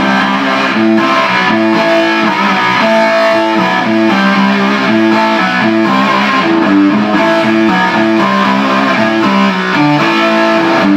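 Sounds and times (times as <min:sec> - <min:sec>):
electric guitar picked notes: 0:00.0 - 0:10.9.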